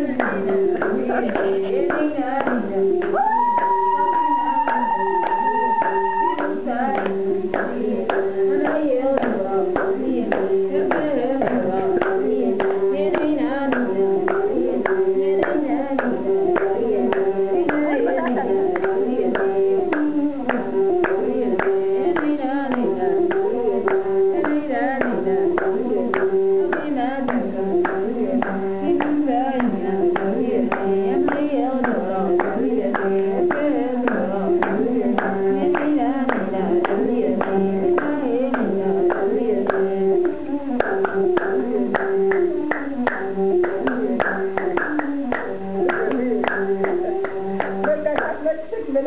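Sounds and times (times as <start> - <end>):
hand-clapping: 0.0 - 48.6
women singing: 0.0 - 49.0.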